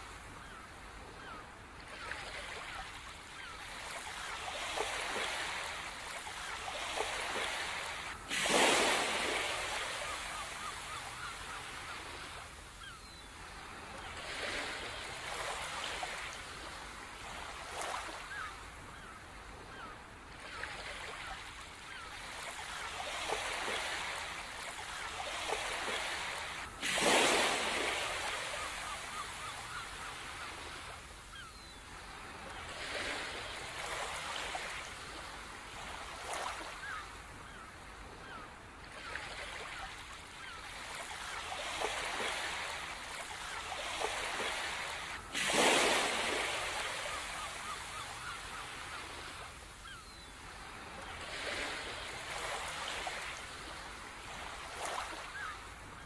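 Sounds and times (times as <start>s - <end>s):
ocean waves washing ashore: 0.0s - 56.0s.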